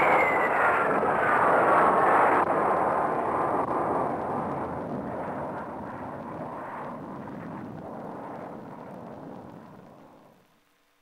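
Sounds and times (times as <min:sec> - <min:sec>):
jet engine roar: 0:00.0 - 0:10.4.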